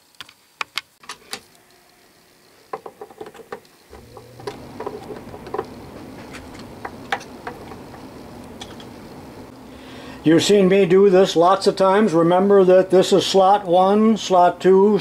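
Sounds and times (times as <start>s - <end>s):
steady low hum: 1.5s - 15.0s.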